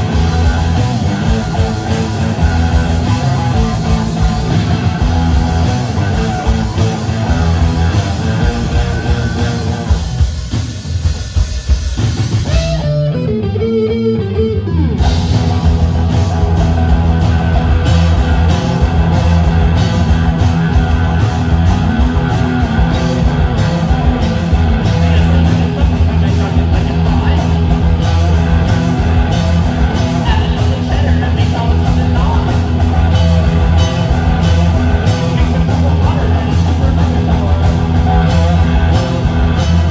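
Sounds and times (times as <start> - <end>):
loud rock band playing: 0.0 - 39.9.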